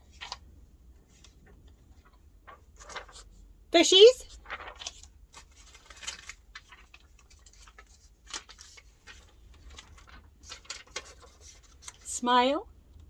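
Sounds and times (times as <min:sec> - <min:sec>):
paper sheets rustling: 0:00.1 - 0:00.4, 0:01.0 - 0:12.3.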